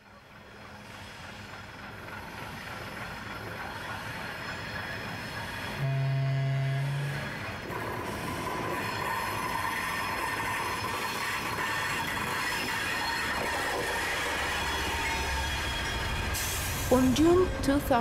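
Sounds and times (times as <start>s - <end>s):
diesel locomotive engine running: 0.0s - 18.0s
high whine from train wheels: 0.0s - 18.0s.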